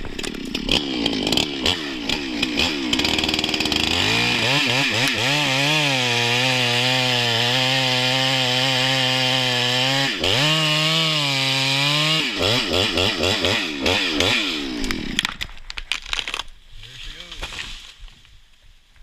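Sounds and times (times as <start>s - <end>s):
chainsaw cutting and revving: 0.0s - 18.0s.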